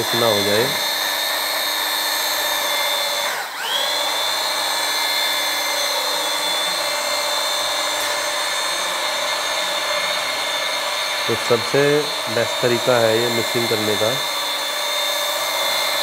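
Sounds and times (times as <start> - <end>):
electric grinder mixing adhesive: 0.0 - 16.0.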